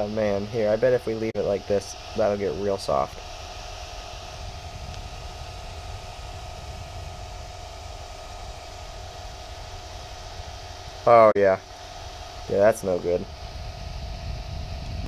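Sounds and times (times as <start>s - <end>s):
cooling fan whirring: 0.0s - 15.0s.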